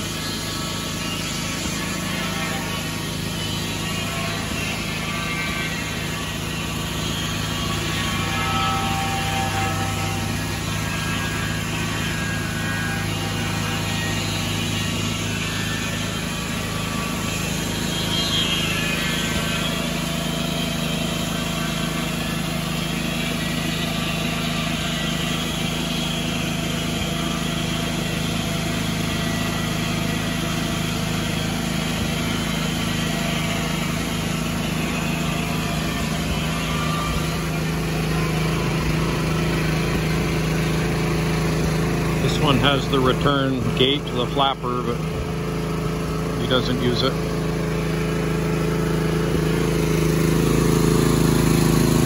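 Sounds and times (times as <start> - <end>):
circular saw cutting log: 0.0 - 52.0
gas engine humming: 0.0 - 52.0.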